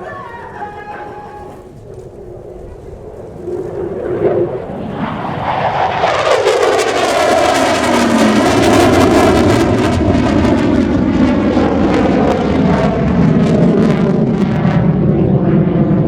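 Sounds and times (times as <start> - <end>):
jet engine roaring past: 0.0 - 16.0.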